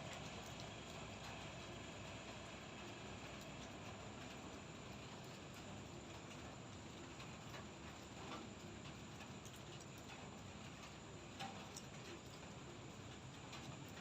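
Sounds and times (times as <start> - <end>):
raindrops ticking and tapping: 0.0 - 14.0.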